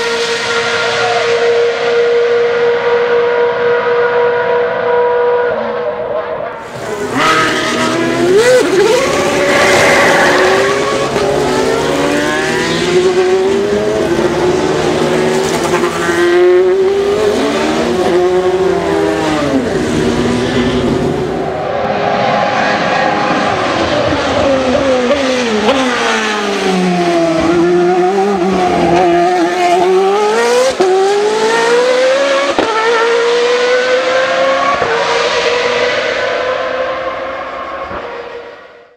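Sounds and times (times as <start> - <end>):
car braking and accelerating away: 0.0 - 38.9
race car engines at speed: 0.0 - 38.9.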